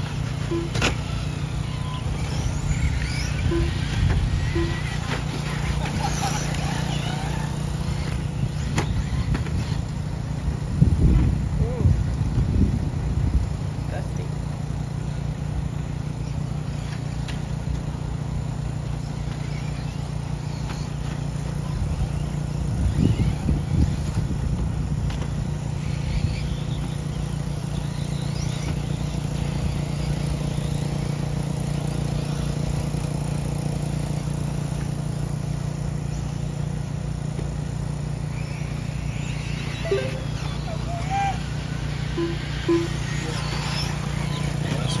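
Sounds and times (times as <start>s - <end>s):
rc truck motor whines: 0.0s - 45.0s
steady low hum: 0.0s - 45.0s.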